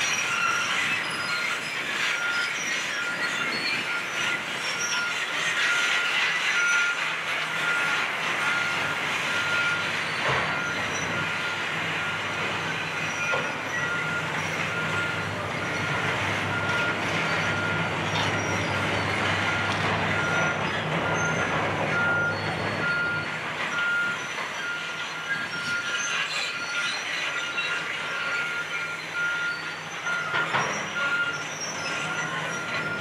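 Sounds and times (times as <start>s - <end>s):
clatter of steel tracks: 0.0s - 33.0s
excavator engine running: 0.0s - 33.0s
reversing alarm beeping: 0.1s - 33.0s.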